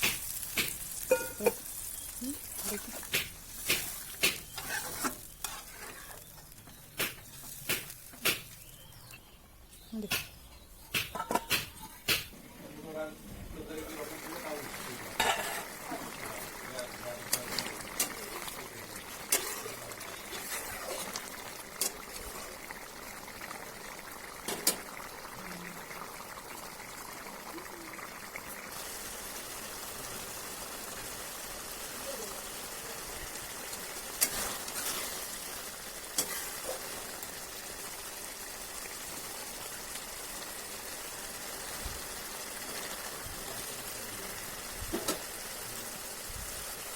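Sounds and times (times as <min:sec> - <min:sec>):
curry simmering with sizzling hiss: 0:00.0 - 0:46.9.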